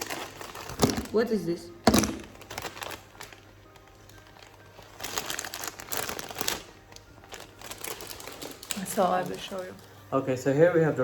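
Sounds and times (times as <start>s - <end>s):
crinkling and rustling: 0.0s - 1.3s, 1.9s - 9.9s
faint background music: 0.0s - 11.0s.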